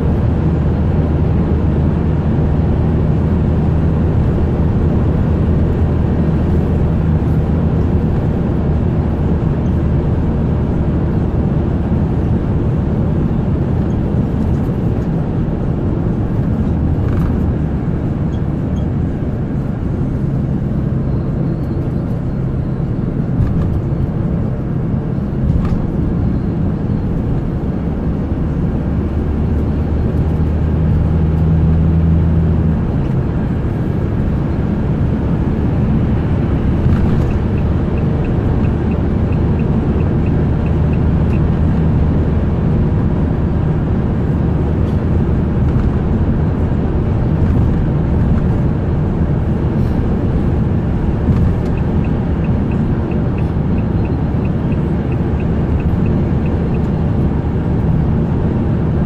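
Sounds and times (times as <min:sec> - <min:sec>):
vehicle engine and tyre drone: 0:00.0 - 0:59.0.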